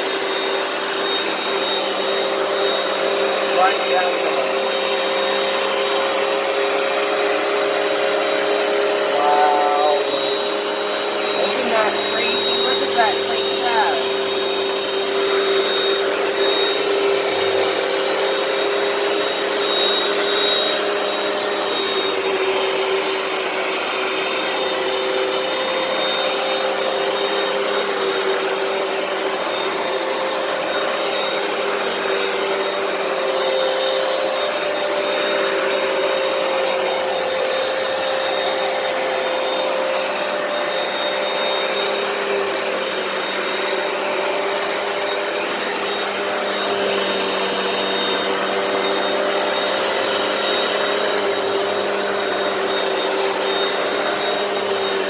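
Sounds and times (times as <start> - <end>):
carpet cleaner running: 0.0 - 55.0.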